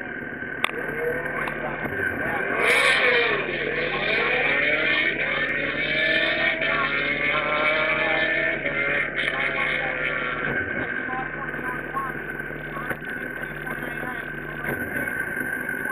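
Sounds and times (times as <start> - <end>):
drag-racing engines droning: 0.0 - 15.9.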